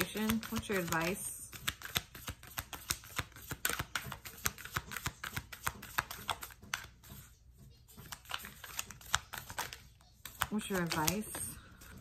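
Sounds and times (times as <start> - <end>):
deck of cards being shuffled: 0.0 - 7.3, 7.9 - 12.0.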